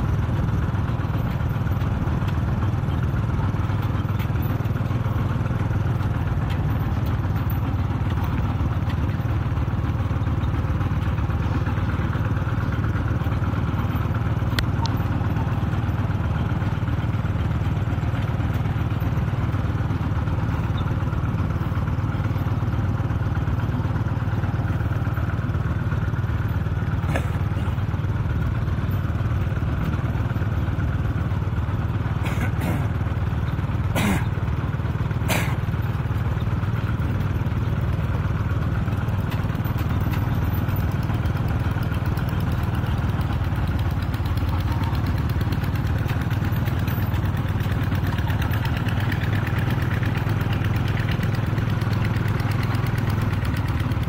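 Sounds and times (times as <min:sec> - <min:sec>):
diesel tractor engine droning: 0:00.0 - 0:54.0.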